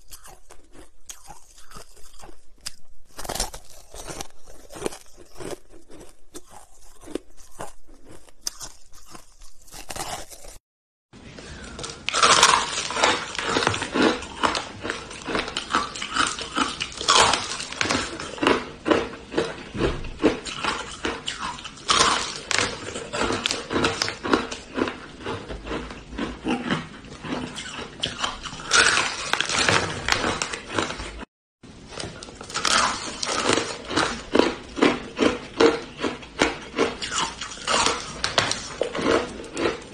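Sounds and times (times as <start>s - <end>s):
ice being chewed and crunched: 0.0s - 10.6s, 11.6s - 31.3s, 32.1s - 39.9s.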